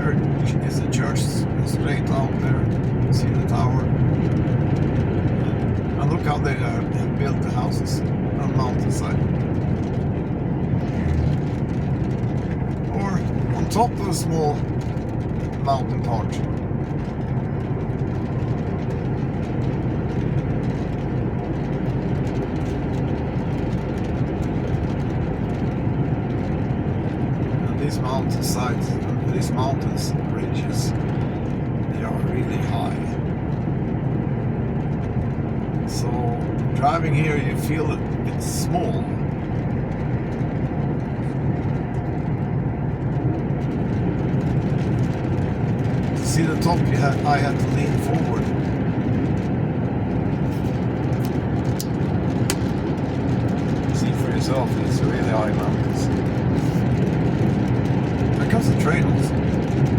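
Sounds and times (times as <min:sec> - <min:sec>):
truck engine drone: 0:00.0 - 0:59.9
tyre and road noise: 0:00.0 - 0:59.9.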